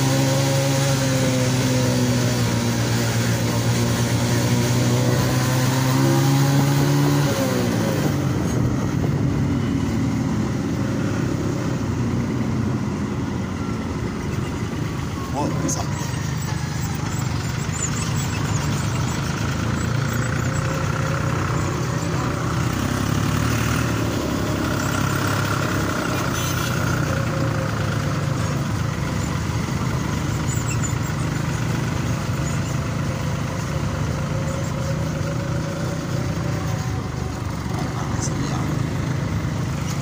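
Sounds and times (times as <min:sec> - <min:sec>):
tractor engines running: 0:00.0 - 0:40.0.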